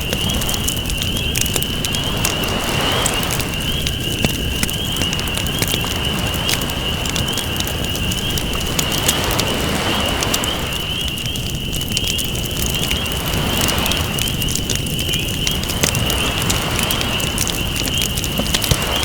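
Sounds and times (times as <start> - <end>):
campfire crackling and popping: 0.0 - 19.0
ocean waves: 0.0 - 19.0.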